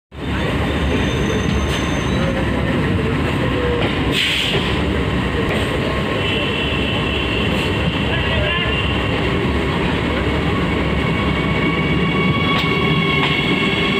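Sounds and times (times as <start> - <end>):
train wheels rumbling on rails: 0.2 - 13.9.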